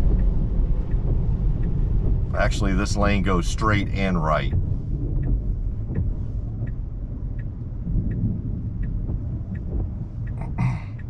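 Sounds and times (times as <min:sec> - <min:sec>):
car cabin rumble: 0:00.0 - 0:11.0
turn signal ticking: 0:00.0 - 0:11.0.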